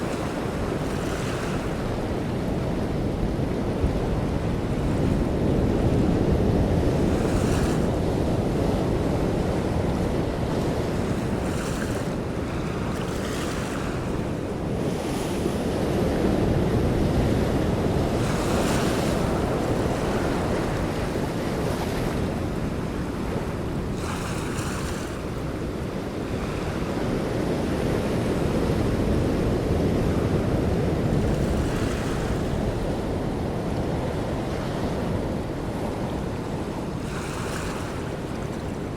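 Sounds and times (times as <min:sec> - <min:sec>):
rush of wind and water: 0:00.0 - 0:38.9
waves splashing against boat: 0:00.0 - 0:38.9.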